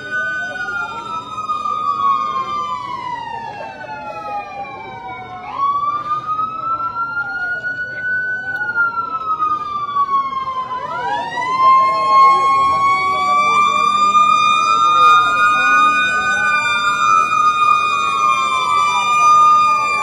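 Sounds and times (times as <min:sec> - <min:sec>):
emergency sirens wailing: 0:00.0 - 0:20.0
large crowd noise: 0:00.0 - 0:20.0.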